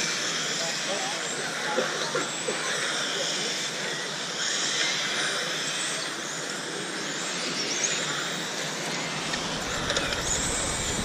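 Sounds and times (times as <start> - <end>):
rc cars motor whine: 0.0 - 11.0.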